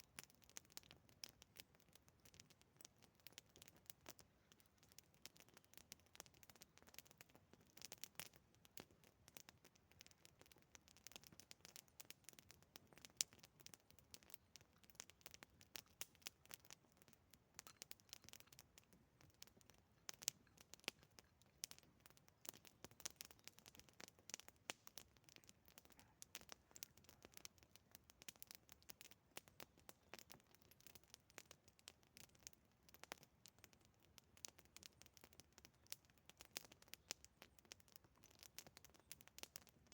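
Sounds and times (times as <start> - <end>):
campfire crackling and snapping: 0.0 - 39.9.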